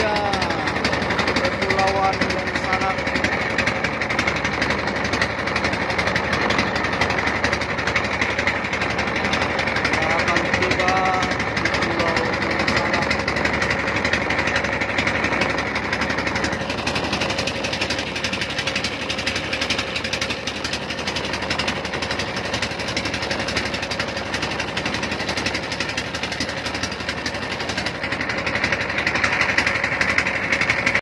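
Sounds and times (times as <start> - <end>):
motorboat engine chugging: 0.0 - 31.0.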